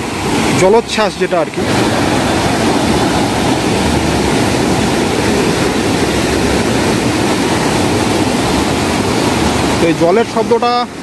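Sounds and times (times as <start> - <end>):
river rushing through rapids: 0.0 - 11.0.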